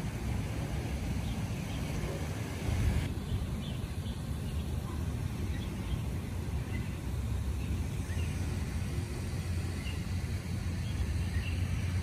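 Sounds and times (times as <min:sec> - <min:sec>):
high hiss: 0:00.0 - 0:12.0
low outdoor rumble: 0:00.0 - 0:12.0.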